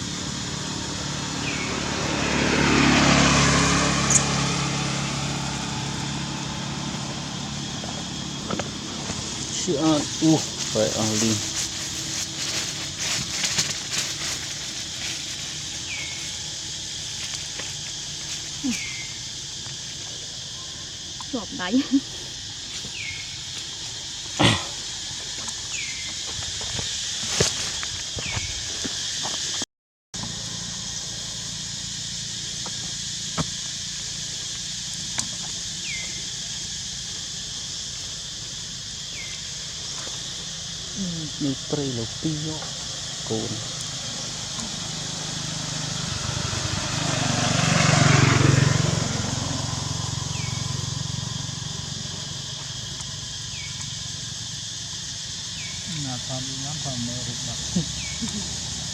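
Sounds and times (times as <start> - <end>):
high-pitched insect drone: 0.0 - 29.6, 30.2 - 58.9.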